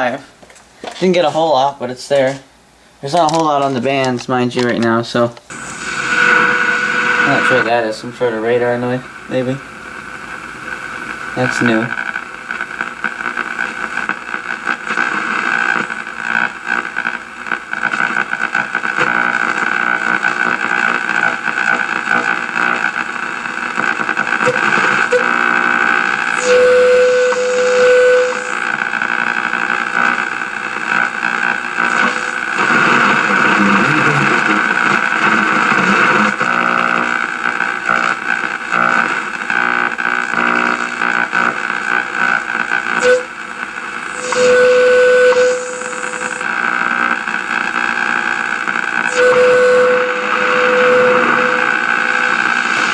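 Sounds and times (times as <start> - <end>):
radio shortwave static: 3.0 - 52.9.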